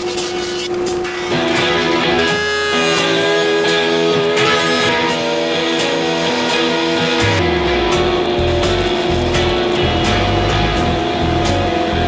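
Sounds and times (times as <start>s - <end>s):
guitar music over beat: 0.0s - 12.0s.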